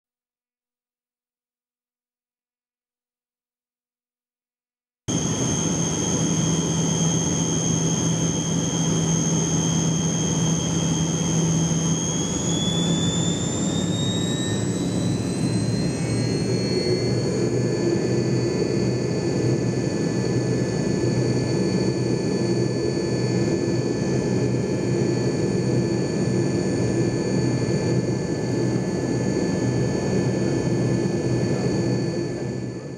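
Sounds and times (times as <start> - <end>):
jet engine whine: 5.1 - 32.9.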